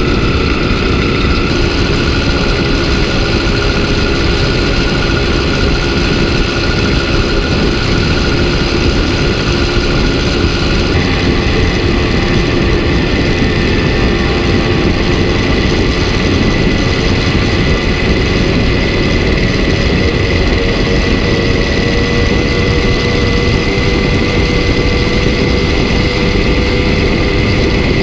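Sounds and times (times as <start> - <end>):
motorbike engine rumble: 0.0 - 28.0.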